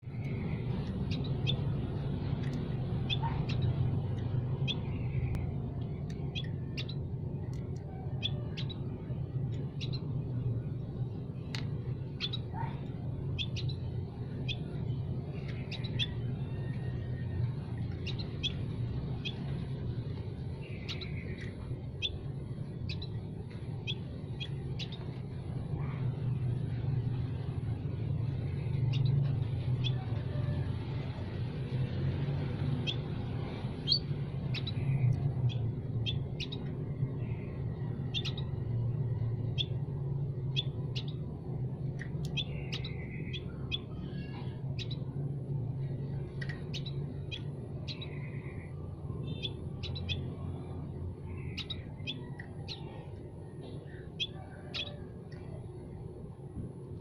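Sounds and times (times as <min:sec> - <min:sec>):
low rumble: 0:00.0 - 0:57.0
small songbirds chirping: 0:00.0 - 0:57.0.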